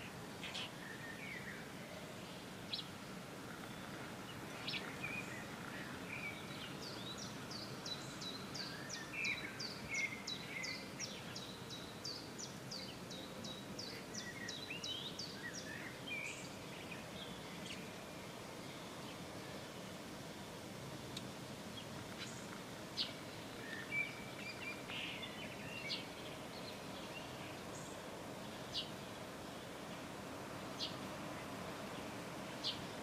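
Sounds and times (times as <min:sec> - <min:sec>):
small birds calling and singing: 0:00.0 - 0:20.4, 0:21.1 - 0:33.0
outdoor background hiss: 0:00.0 - 0:33.0.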